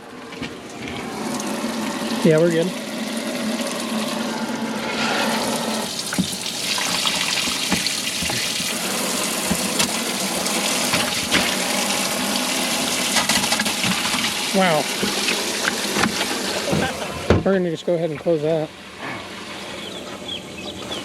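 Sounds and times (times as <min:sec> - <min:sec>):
water pouring into tank: 0:00.0 - 0:16.9.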